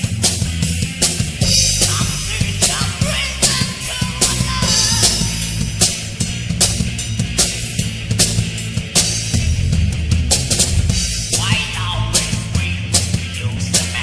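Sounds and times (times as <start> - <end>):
heavy metal band playing: 0.0 - 14.0.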